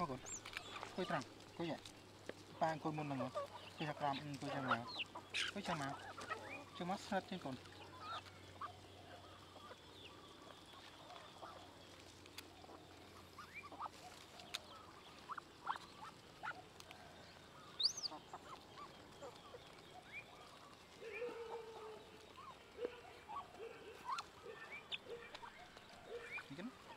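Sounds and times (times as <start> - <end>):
poultry and bird chirps: 0.0 - 26.9.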